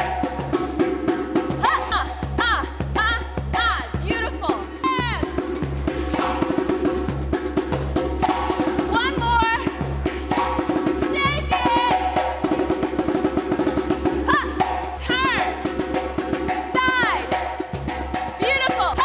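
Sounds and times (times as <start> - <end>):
fast drumming: 0.0 - 19.0.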